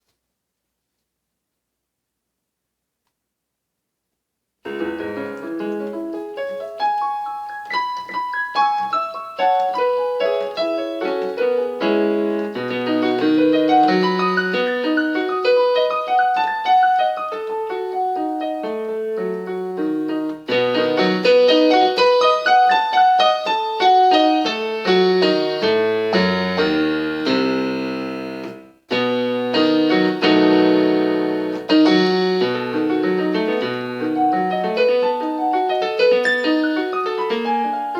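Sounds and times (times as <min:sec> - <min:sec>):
solo piano piece: 0:04.6 - 0:37.9.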